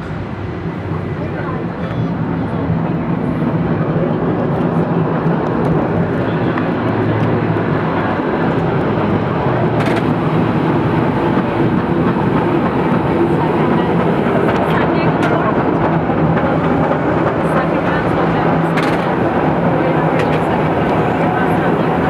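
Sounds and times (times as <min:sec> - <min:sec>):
cable car rumbling on rails: 0:00.0 - 0:22.0.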